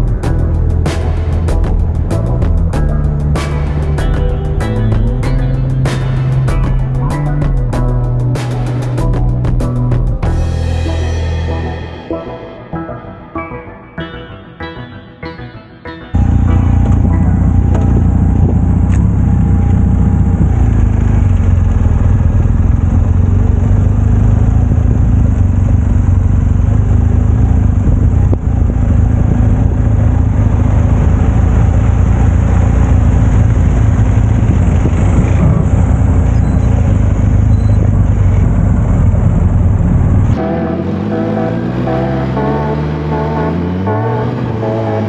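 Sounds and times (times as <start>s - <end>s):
motorcycle engine running: 0.0s - 12.0s, 16.2s - 45.0s.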